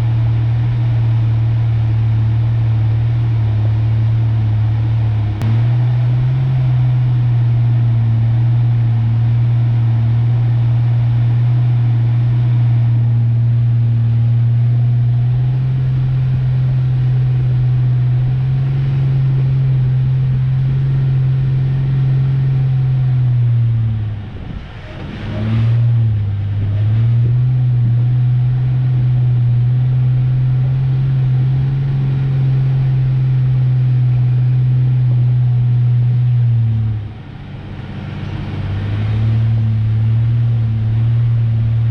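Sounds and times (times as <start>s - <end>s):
pickup engine drone: 0.0s - 41.9s.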